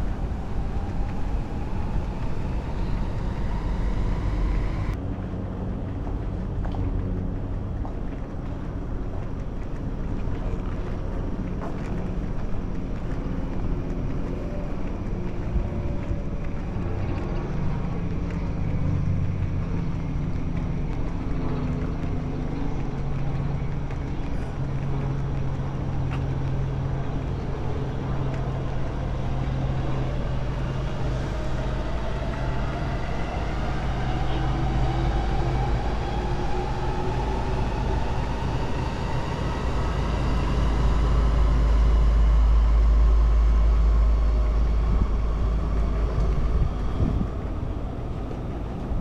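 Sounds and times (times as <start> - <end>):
low train rumble: 0.0 - 49.0.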